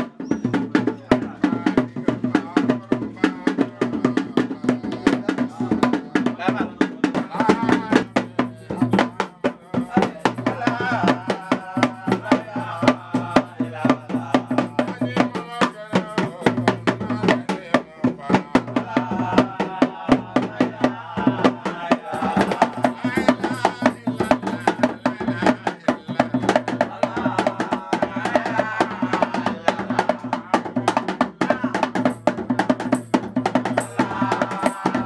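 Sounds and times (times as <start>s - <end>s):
people's voices: 0.0s - 35.0s.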